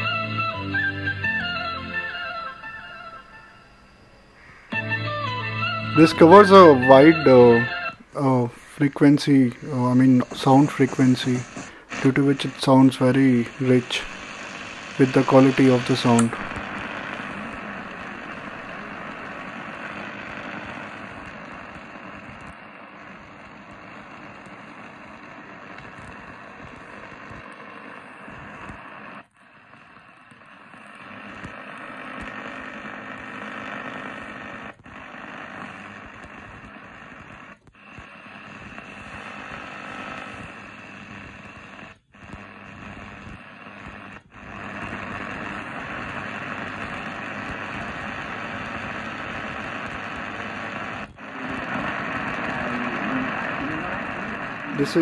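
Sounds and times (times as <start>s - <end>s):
radio static hissing: 0.0s - 55.0s.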